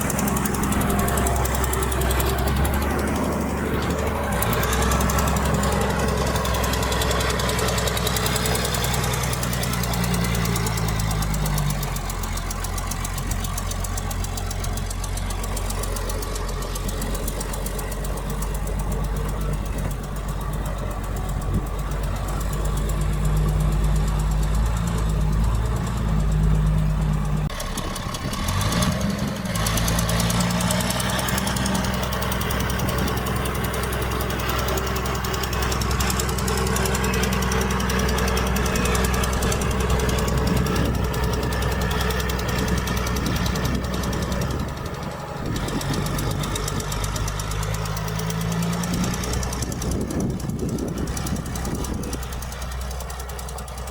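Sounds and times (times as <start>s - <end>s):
diesel engine working: 0.0s - 53.9s.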